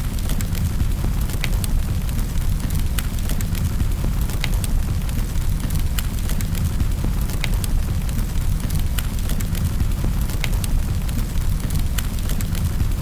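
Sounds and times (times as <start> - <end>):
fire popping and snapping: 0.0 - 13.0
low rumble of flames: 0.0 - 13.0.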